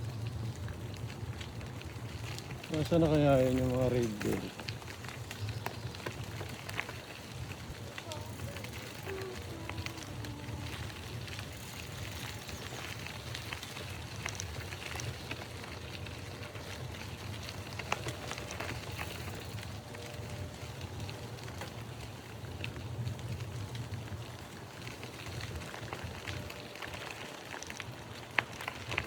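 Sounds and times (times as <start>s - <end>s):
light crackles and clicks: 0.1s - 29.0s.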